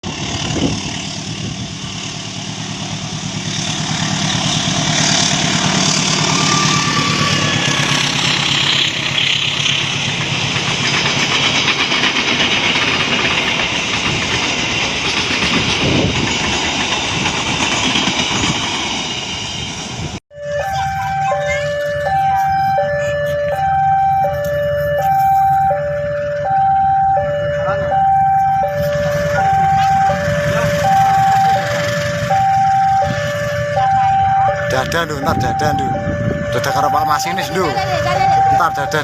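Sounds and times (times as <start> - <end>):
low engine drone: 0.0 - 39.0
train wheels rumbling on rails: 0.0 - 39.0.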